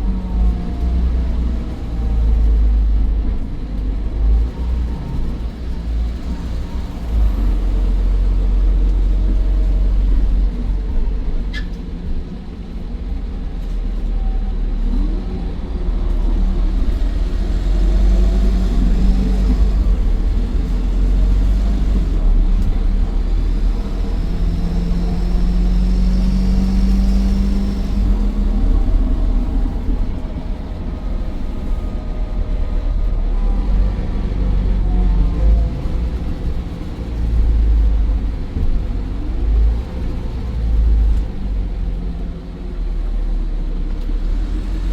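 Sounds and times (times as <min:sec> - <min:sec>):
bus engine rumble: 0:00.0 - 0:44.9
faint turbo whine: 0:00.0 - 0:44.9.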